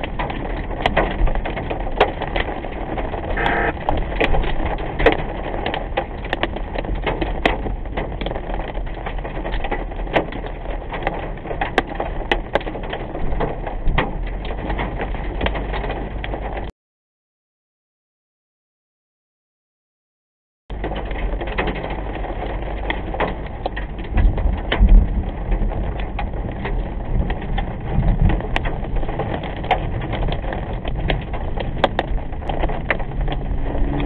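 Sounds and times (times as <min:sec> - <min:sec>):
heavy rain on car roof: 0:00.0 - 0:16.7, 0:20.7 - 0:34.0
raindrops clicking on glass: 0:00.0 - 0:16.7, 0:20.7 - 0:34.0
wet tyres on road: 0:00.0 - 0:16.7, 0:20.7 - 0:34.0.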